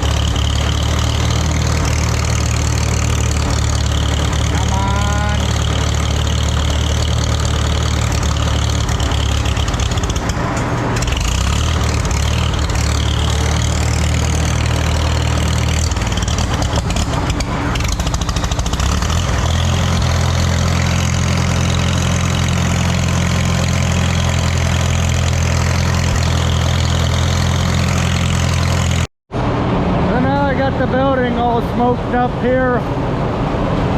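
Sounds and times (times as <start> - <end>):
tractor engine running: 0.0 - 33.8.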